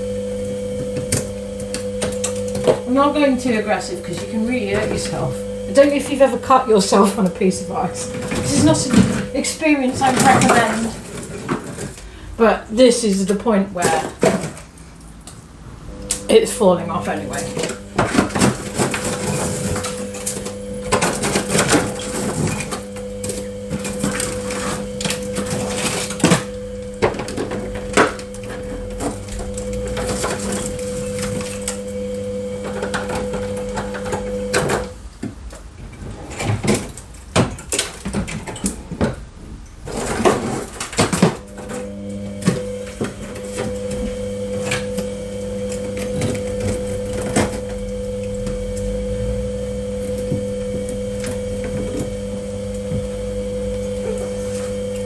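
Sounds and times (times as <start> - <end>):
steady electric hum: 0.0 - 55.0.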